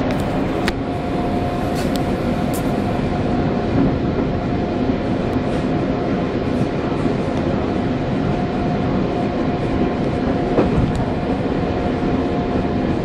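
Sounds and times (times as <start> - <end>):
thin steady whine: 0.0 - 13.0
train wheels rumbling on rails: 0.0 - 13.0.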